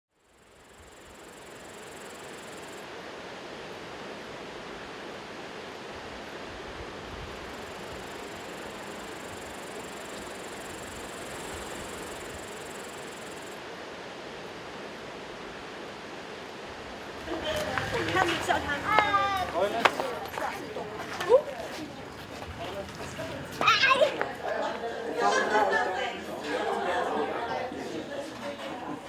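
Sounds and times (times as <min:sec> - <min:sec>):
steady rushing noise: 0:00.4 - 0:29.0.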